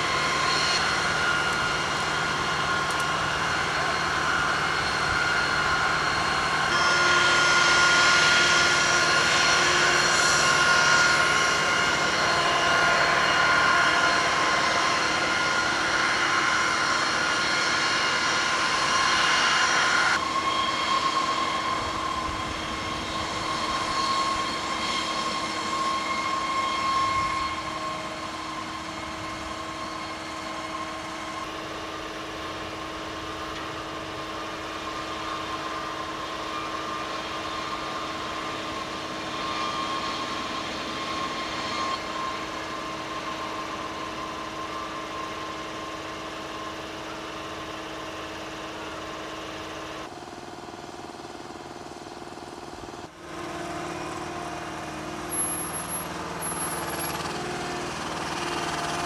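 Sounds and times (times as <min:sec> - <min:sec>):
machinery high whine: 0:00.0 - 0:59.0.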